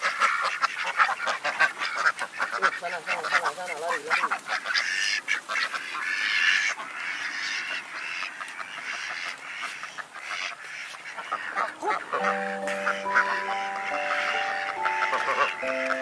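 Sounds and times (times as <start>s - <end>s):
waterfowl calling: 0.0s - 16.0s.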